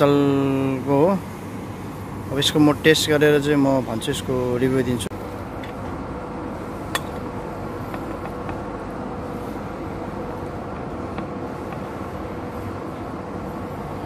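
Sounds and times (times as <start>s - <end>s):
city traffic noise: 0.0s - 14.0s
faint constant hum: 0.0s - 14.0s.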